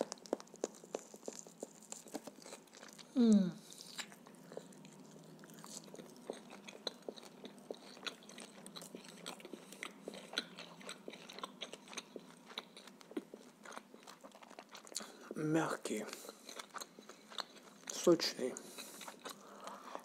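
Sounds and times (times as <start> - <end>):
chewing with mouth clicks: 0.0 - 20.0.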